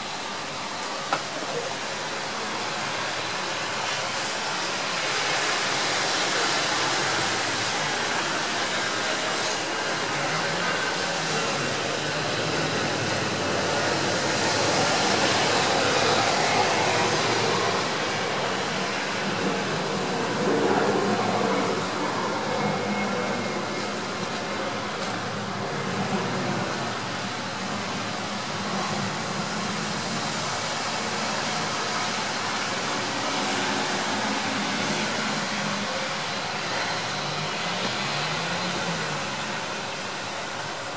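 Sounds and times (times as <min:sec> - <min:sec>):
light rain on leaves and roofs: 0:00.0 - 0:40.9.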